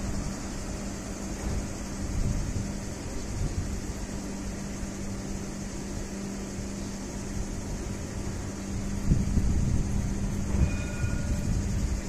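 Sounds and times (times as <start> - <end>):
tram rumble approaching: 0.0 - 5.0, 7.0 - 12.0
outdoor hum and hiss: 0.0 - 12.0.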